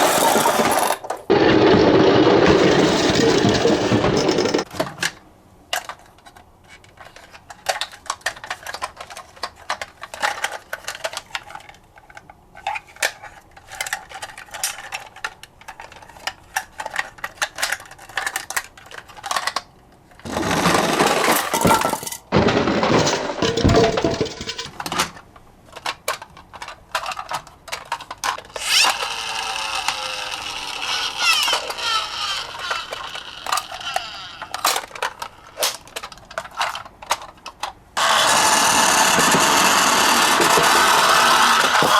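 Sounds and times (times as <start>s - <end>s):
toy cars clicking and clattering: 0.0s - 4.7s, 5.7s - 41.9s
toy cars rolling and rattling: 0.0s - 4.8s, 5.7s - 41.9s.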